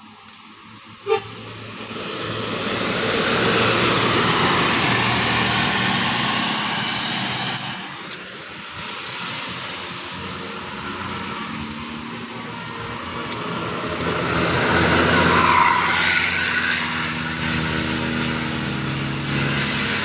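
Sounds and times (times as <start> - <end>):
bus driving past: 0.0 - 20.0.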